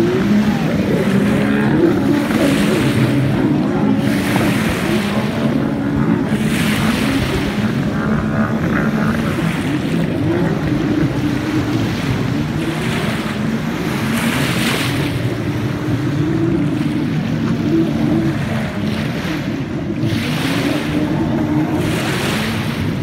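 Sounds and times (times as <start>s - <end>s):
choppy water: 0.0s - 23.0s
distant jet ski engines droning: 0.0s - 23.0s
wind on microphone: 0.0s - 23.0s.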